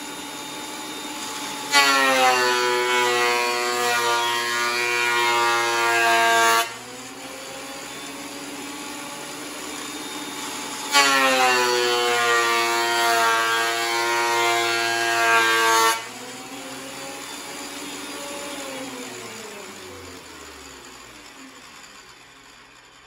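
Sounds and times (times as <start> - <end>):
thickness planer cutting board: 0.0 - 23.0.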